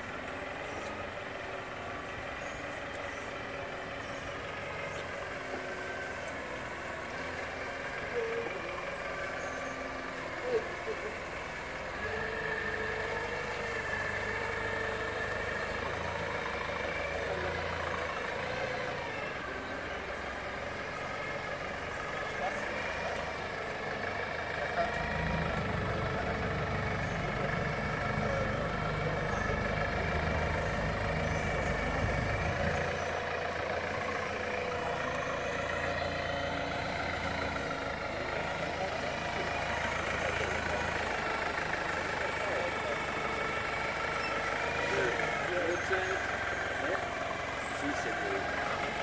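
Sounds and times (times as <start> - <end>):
forklift engine droning with whine: 0.0 - 49.0.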